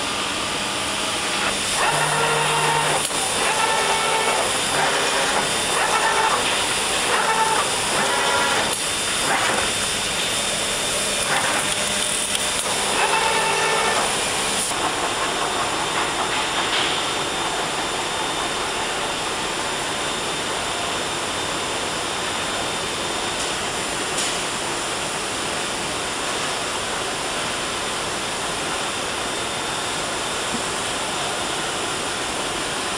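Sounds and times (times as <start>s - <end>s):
steady airy hiss of machine: 0.0s - 32.9s.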